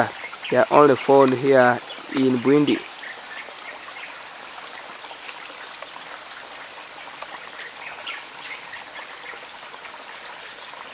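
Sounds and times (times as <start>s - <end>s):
stream trickling over rocks: 0.0s - 10.9s.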